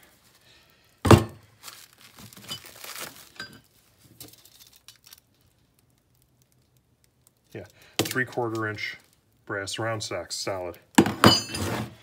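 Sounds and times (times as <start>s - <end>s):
plastic wrap crinkling: 0.0s - 9.8s.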